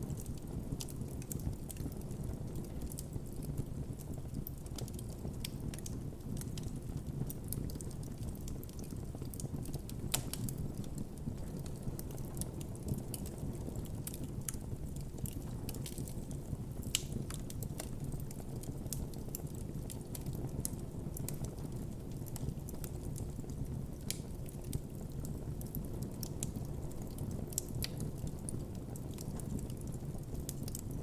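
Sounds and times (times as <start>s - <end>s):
campfire crackling: 0.0s - 31.0s
low rumble of flames: 0.0s - 31.0s
loud fire pops: 4.4s - 31.0s.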